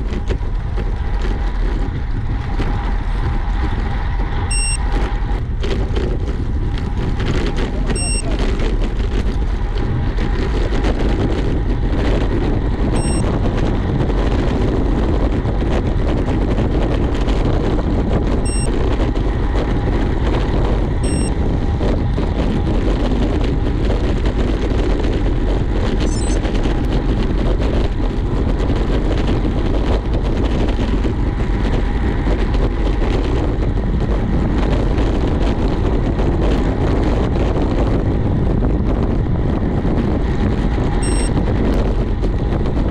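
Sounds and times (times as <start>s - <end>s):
road noise: 0.0s - 42.9s
wind rushing on microphone: 0.0s - 42.9s.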